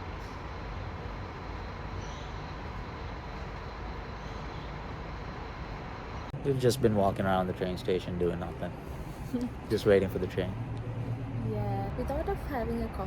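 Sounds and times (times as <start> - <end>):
railway platform rumble and hum: 0.0 - 13.0.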